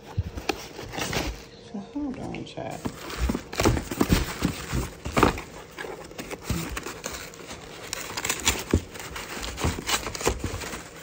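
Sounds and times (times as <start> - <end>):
rustling in cardboard box: 0.0 - 11.0.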